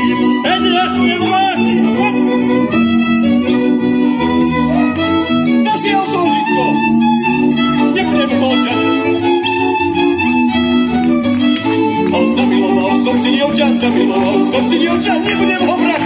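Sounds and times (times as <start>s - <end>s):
double bass line: 0.0s - 16.0s
fiddles playing vibrato melody: 0.0s - 16.0s
held string chords: 0.0s - 16.0s.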